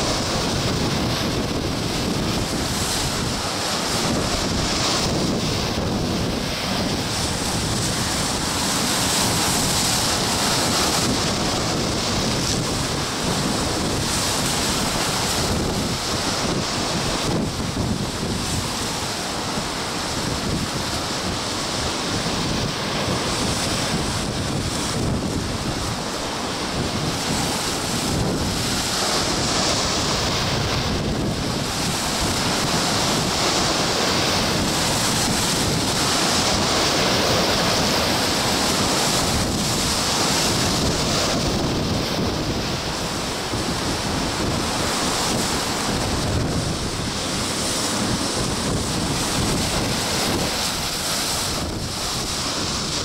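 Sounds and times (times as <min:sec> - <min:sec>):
waves breaking on rocky shore: 0:00.0 - 0:53.0
wind rumble on microphone: 0:00.0 - 0:53.0.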